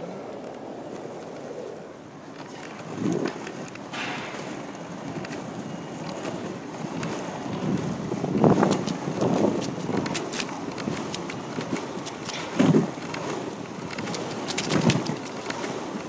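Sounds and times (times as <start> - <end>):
skateboard wheels rolling on pavement: 0.0 - 16.0
skateboard bump: 2.2 - 16.0.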